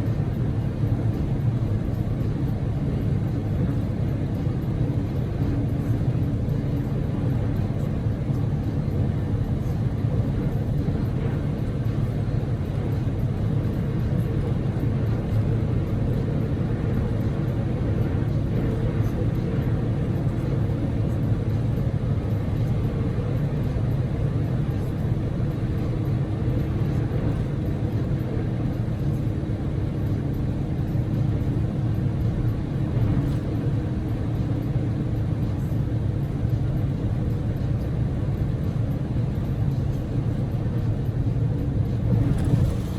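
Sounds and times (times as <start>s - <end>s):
car engine drone: 0.0s - 42.9s.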